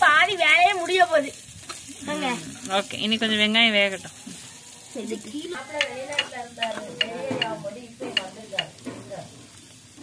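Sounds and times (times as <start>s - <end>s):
onions sizzling: 0.0s - 10.0s.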